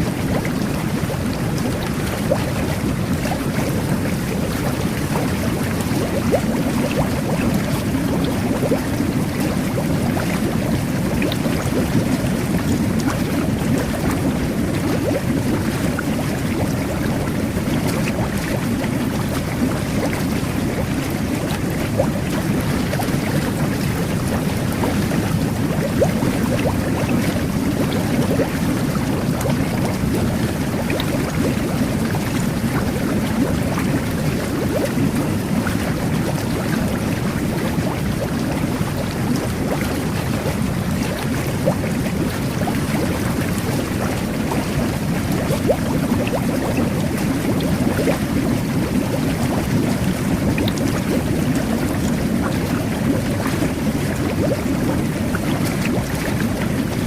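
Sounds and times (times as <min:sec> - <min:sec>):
bubbles bursting: 0:00.0 - 0:57.0
jet bath water rushing: 0:00.0 - 0:57.0.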